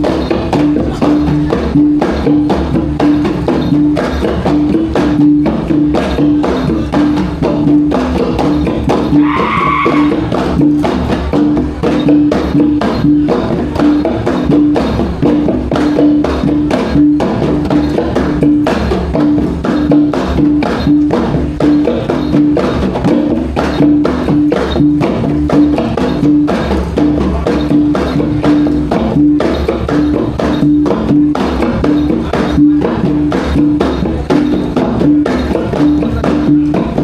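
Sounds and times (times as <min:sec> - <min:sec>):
fast sharp drum strokes: 0:00.0 - 0:37.0.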